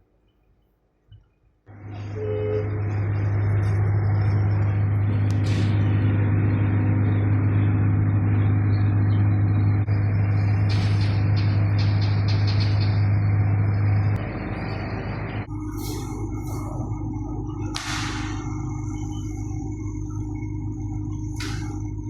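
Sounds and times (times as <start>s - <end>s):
machine motor humming: 1.7s - 22.0s.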